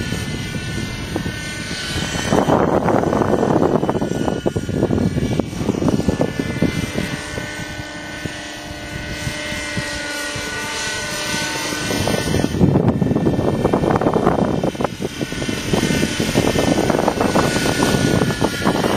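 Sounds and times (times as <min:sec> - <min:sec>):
model helicopter engine whine: 0:00.0 - 0:18.9
wind buffeting microphone: 0:00.0 - 0:18.9.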